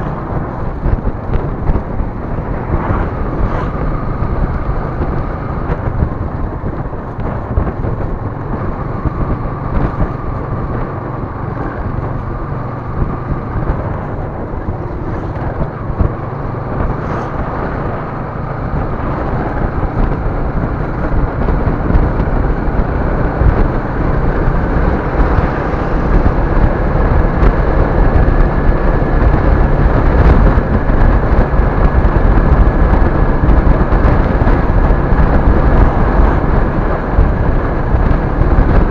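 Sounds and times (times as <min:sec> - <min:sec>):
buffeting rumble: 0:00.0 - 0:38.9
vehicle engine and road noise: 0:00.0 - 0:38.9.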